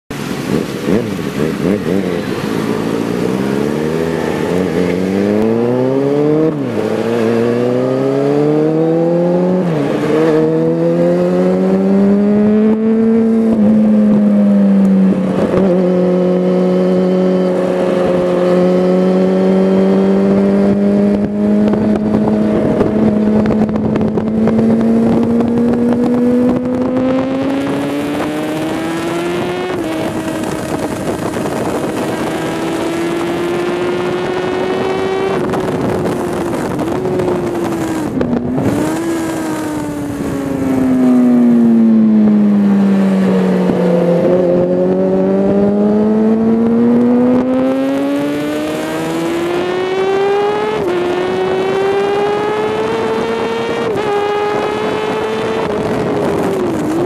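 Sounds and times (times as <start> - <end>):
motorcycle engine accelerating: 0.1 - 57.0
wind noise on microphone: 0.1 - 57.0.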